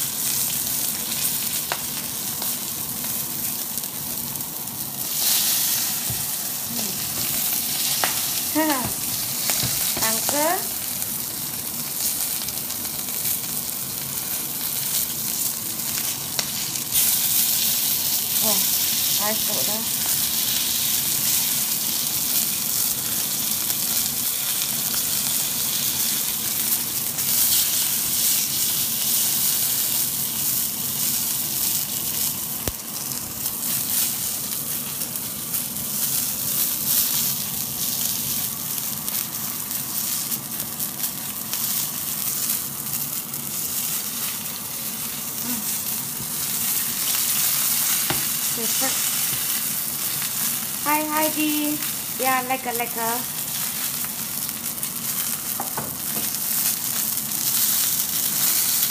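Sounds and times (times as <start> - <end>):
steak sizzling in oil: 0.0 - 58.9.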